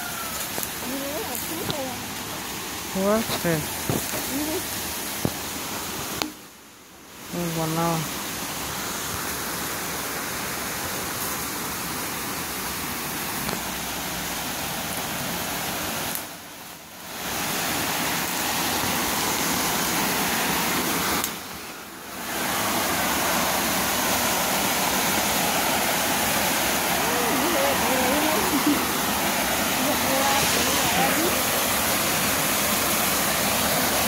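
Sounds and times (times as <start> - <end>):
waterfall rushing: 0.0 - 6.2, 7.3 - 34.0.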